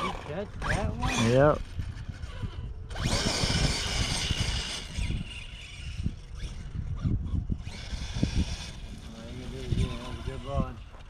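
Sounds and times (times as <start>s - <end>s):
distant rc truck driving: 0.0s - 11.0s
wind buffeting microphone: 0.0s - 11.0s.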